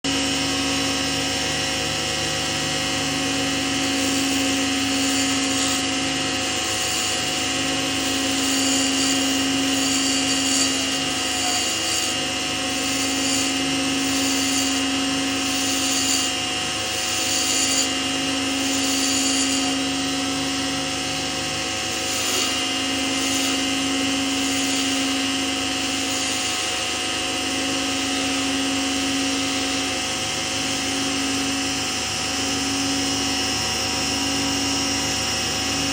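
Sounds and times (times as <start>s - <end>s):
lathe motor running: 0.0s - 35.9s.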